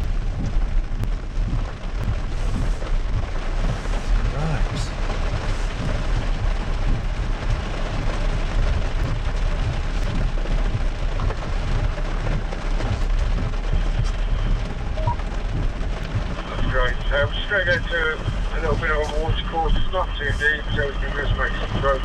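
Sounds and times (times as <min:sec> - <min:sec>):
vehicle low rumble: 0:00.0 - 0:22.0.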